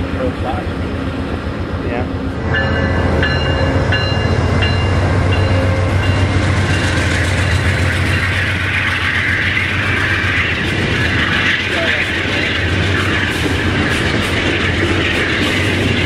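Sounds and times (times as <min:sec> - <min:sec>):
diesel locomotive engine drone: 0:00.0 - 0:16.0
wheels rushing on rails: 0:00.0 - 0:16.0
train bell dinging: 0:02.4 - 0:16.0.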